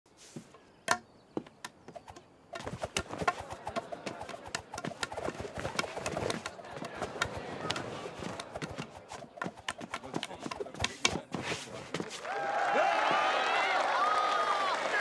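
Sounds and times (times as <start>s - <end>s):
arena crowd din: 3.0s - 15.0s.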